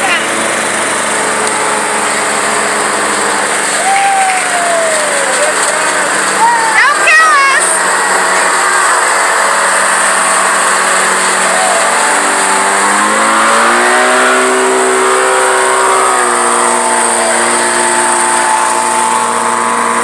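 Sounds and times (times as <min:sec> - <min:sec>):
tractor engine running under load: 0:00.0 - 0:20.0.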